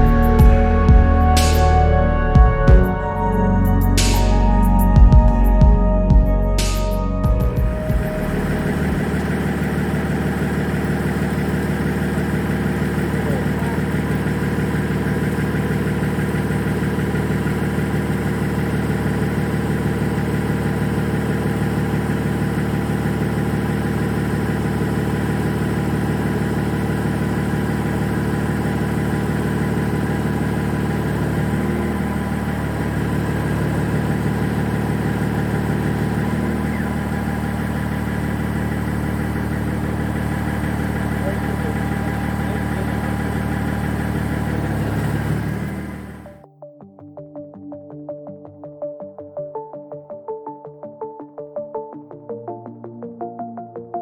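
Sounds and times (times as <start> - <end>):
diesel engine idling: 0.0 - 46.4.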